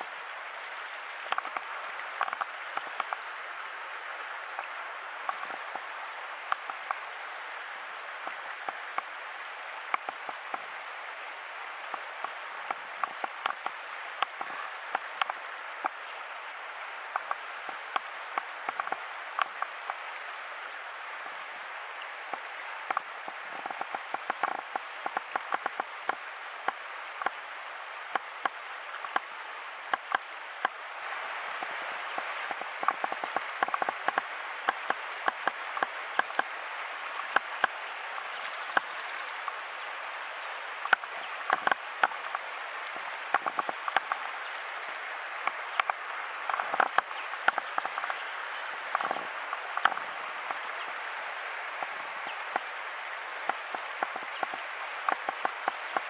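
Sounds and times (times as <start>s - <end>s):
water rushing over rocks: 0.0s - 56.0s
water splashes: 0.0s - 56.0s.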